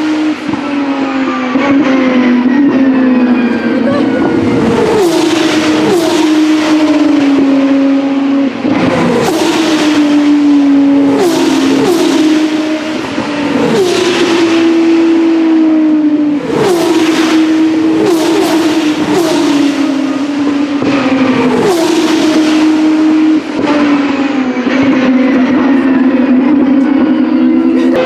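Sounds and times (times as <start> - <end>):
race car engines at high revs: 0.0 - 28.0
race car passing close: 0.0 - 28.0.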